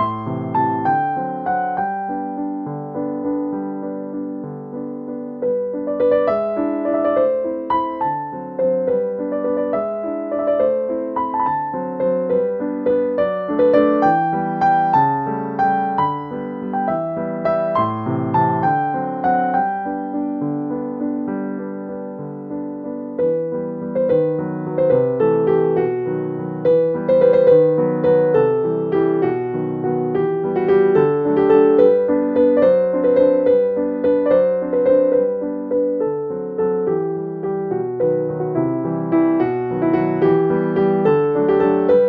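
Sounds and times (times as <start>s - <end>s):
gentle piano melody: 0.0s - 42.0s.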